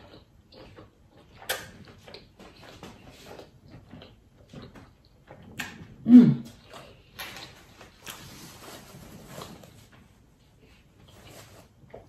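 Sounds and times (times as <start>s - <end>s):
chewing with mouth clicks: 0.0s - 8.6s, 9.2s - 12.0s.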